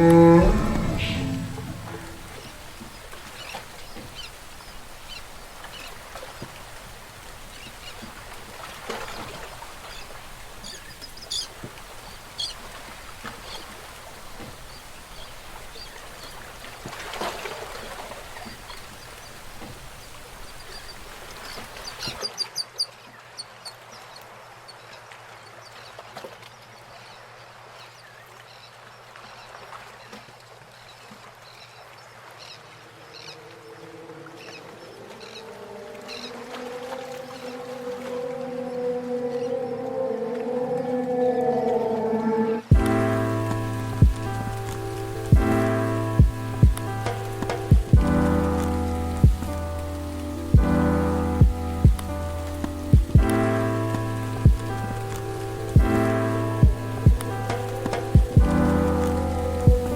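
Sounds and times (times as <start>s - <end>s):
outdoor ambience: 0.0s - 23.2s, 32.2s - 59.9s.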